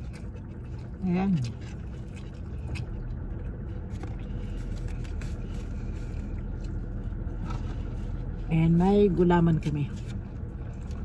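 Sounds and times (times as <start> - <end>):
car engine rumble from cabin: 0.0 - 11.0.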